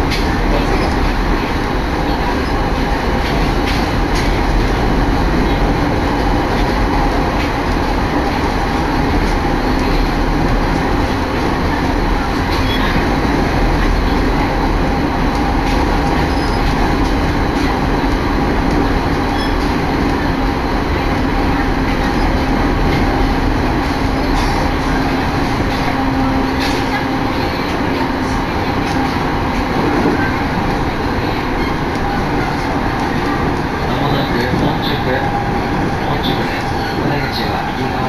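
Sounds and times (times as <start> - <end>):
train wheels on rails rumbling: 0.0 - 38.0.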